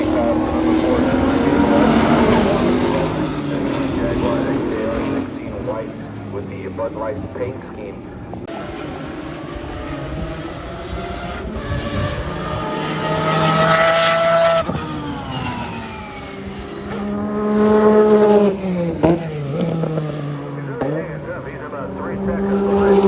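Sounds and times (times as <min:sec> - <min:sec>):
race car engine at full throttle: 0:00.0 - 0:23.0.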